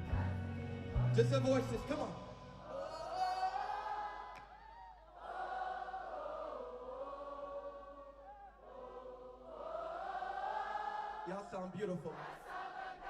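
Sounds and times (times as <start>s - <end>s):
crowd singing a worship song: 0.0s - 13.0s.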